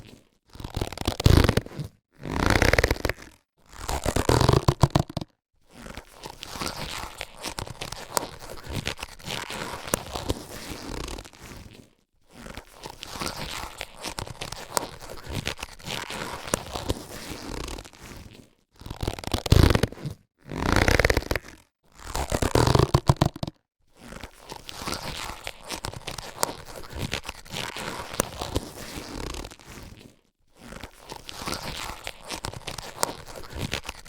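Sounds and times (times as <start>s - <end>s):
latex gloves stretched and snapping: 0.0s - 34.0s.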